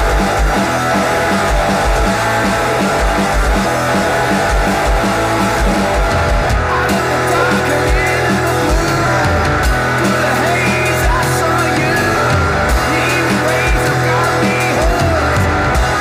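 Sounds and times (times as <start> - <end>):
garage rock band playing: 0.0 - 16.0.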